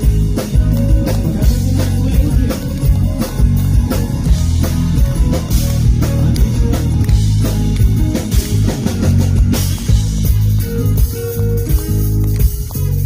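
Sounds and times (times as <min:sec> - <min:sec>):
live acoustic band music: 0:00.0 - 0:13.0.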